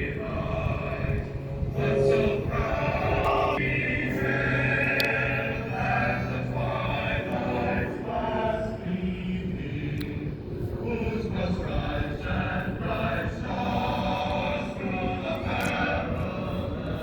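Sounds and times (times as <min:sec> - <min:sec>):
singing over loudspeakers: 0:00.0 - 0:17.0.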